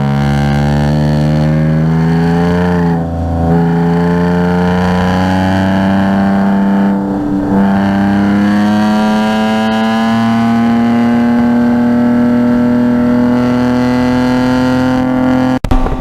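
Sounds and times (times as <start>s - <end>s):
car engine pulling hard: 0.0s - 16.0s.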